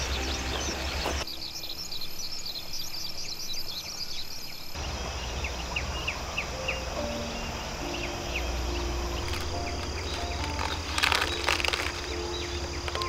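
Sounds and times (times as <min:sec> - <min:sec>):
rural outdoor ambience: 0:00.0 - 0:13.0
small birds chirping: 0:00.0 - 0:13.0.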